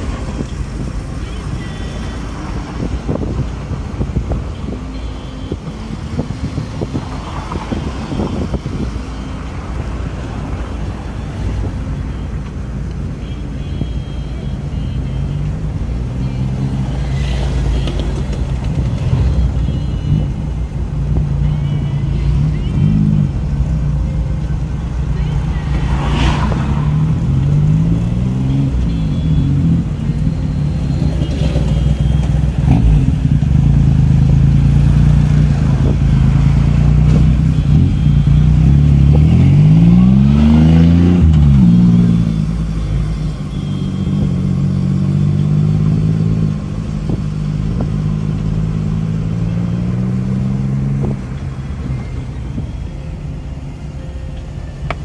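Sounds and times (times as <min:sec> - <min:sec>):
car engine: 0:00.0 - 0:55.0
road noise: 0:00.0 - 0:55.0.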